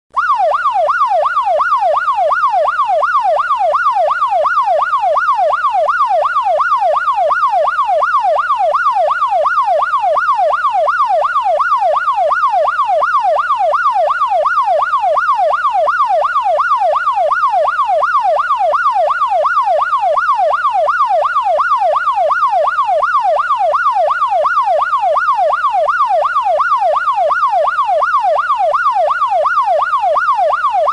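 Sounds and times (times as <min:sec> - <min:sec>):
police siren yelping: 0:00.2 - 0:30.9.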